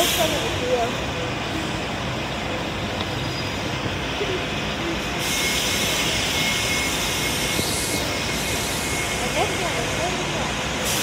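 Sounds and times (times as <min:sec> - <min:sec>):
bus engine rumble: 0:00.0 - 0:11.0
bus hiss: 0:00.0 - 0:11.0
station noise: 0:00.0 - 0:11.0.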